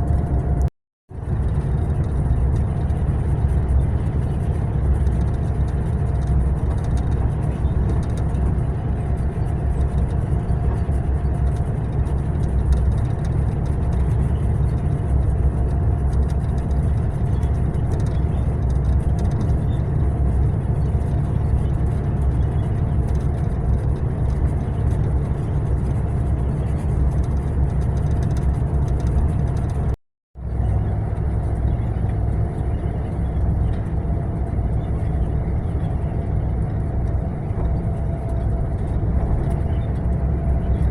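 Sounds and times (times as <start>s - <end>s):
coach engine and road rumble: 0.0s - 40.9s.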